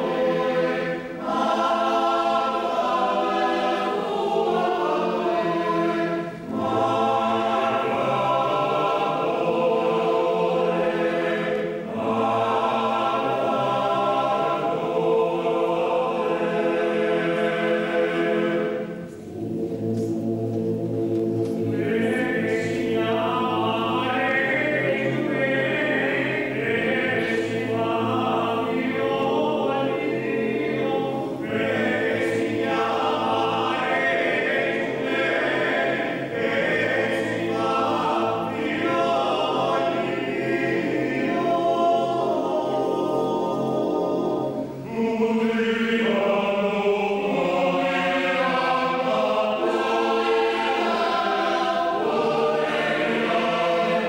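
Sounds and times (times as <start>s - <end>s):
choir singing chant-like phrases: 0.0s - 54.0s.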